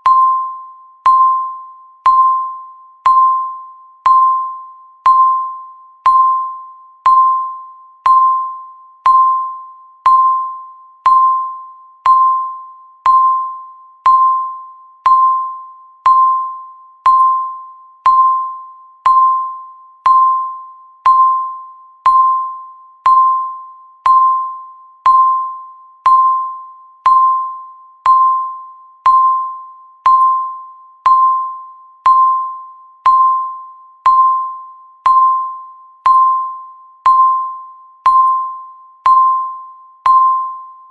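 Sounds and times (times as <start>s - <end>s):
countdown timer beeps: 0.0s - 40.9s.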